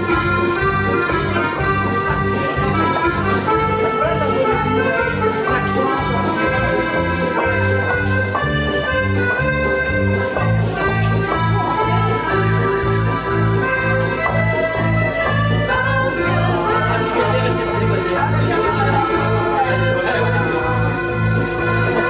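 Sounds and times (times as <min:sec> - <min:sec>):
accordion dance music: 0:00.0 - 0:22.0.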